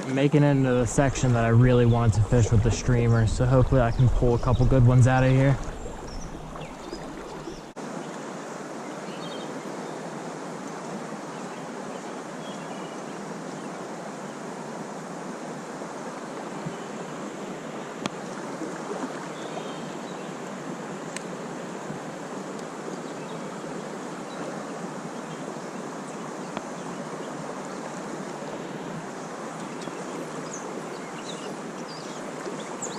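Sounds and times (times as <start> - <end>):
flowing creek water: 0.0 - 32.9.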